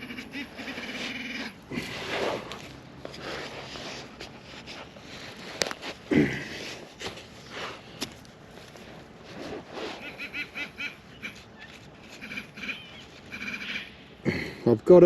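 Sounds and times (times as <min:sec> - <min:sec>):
faint scraping of soil: 0:00.0 - 0:13.3.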